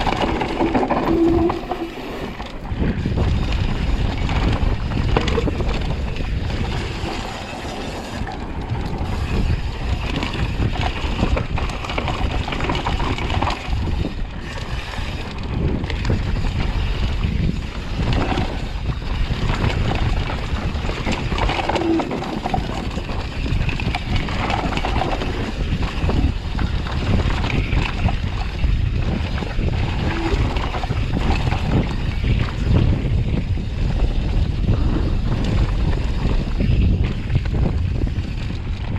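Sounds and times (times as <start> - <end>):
bike clattering and rattling: 0.0 - 38.9
wind buffeting microphone: 0.0 - 38.9.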